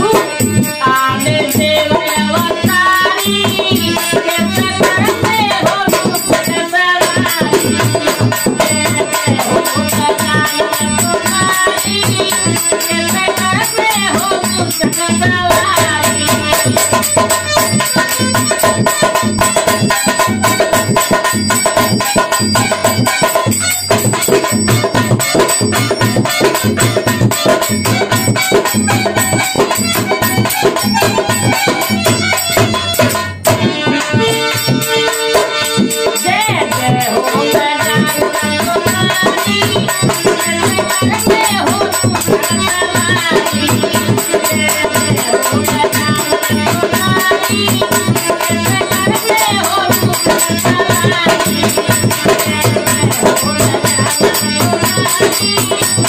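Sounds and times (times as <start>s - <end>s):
dholak drum beat: 0.0s - 56.0s
harmonium: 0.0s - 56.0s.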